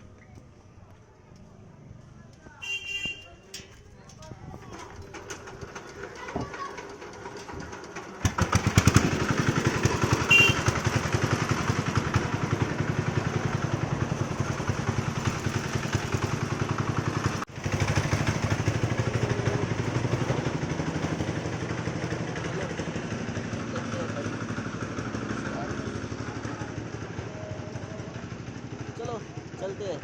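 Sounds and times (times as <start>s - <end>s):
motorcycle engine running: 4.1s - 30.0s.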